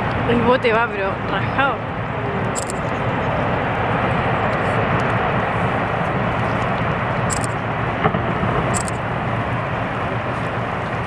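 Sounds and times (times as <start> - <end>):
steady rushing noise: 0.0 - 11.0
low hum: 1.1 - 11.0.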